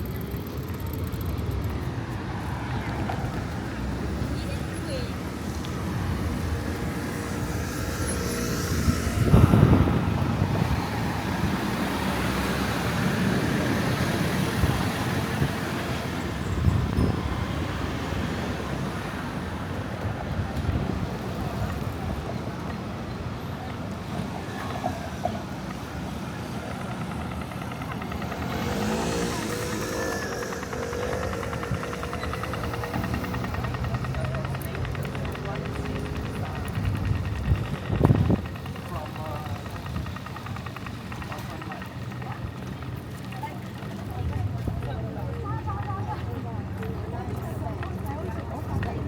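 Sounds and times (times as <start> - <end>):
low rumble of passing vehicle: 0.0 - 49.0
vehicles passing: 0.0 - 49.0.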